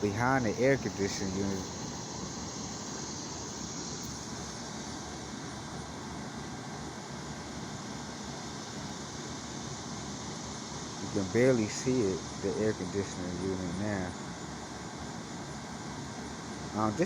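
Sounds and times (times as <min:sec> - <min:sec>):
air conditioning unit running: 0:00.0 - 0:17.0.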